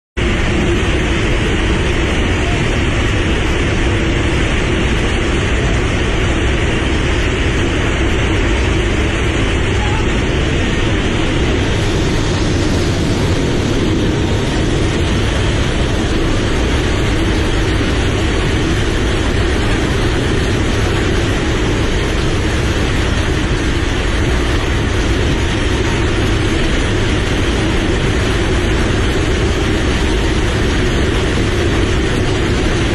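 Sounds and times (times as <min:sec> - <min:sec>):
loud steady aircraft roar: 0:00.2 - 0:32.9.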